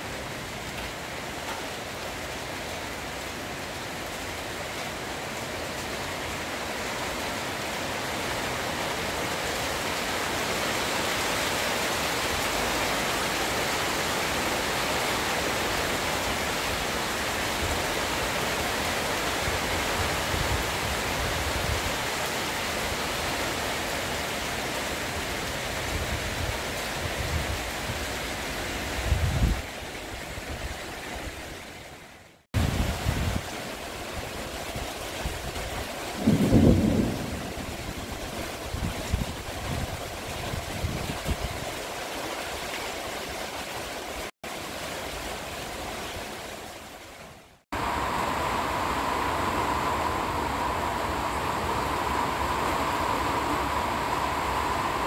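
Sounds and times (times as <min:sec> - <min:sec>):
heavy rain on metal roof: 0:00.0 - 0:55.0.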